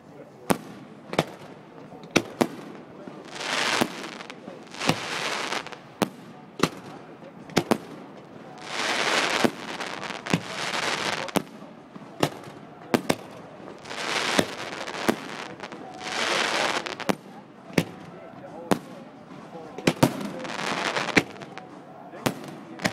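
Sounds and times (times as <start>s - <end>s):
fireworks bangs: 0.5s - 22.9s
hissing crackle of fireworks: 0.5s - 22.9s.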